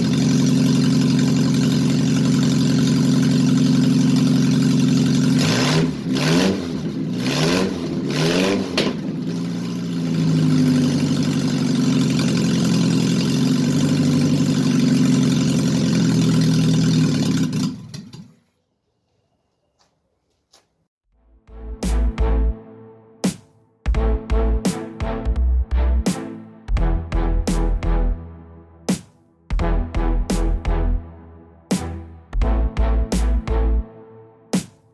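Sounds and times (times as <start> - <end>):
engine idling and revving: 0.0 - 18.3, 21.5 - 22.6, 23.9 - 33.9.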